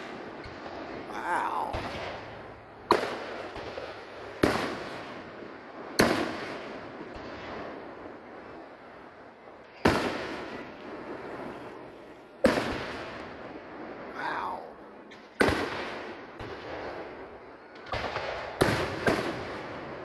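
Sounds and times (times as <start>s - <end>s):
fireworks booming with echo: 0.0s - 20.0s.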